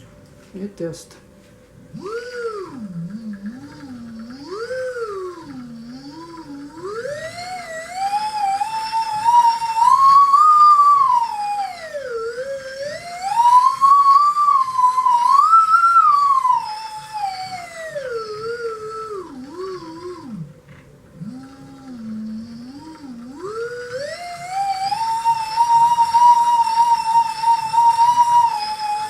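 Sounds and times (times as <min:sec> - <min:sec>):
siren-like whistling tone: 0:01.9 - 0:20.5, 0:21.2 - 0:29.0.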